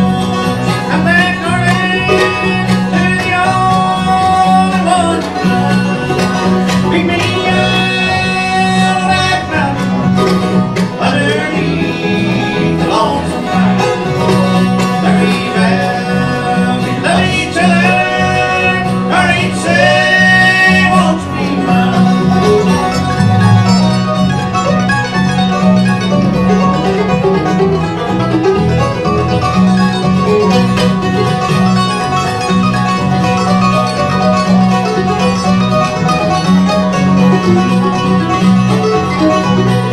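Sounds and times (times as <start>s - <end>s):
bluegrass band playing: 0.0s - 39.9s
sliding lead line: 0.0s - 39.9s.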